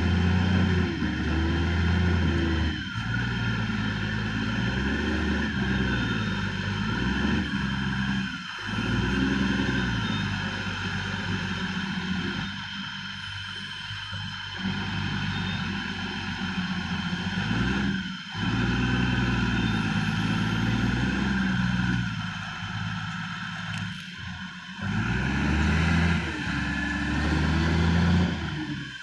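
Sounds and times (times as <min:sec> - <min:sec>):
heavy diesel engine revving: 0:00.0 - 0:29.0.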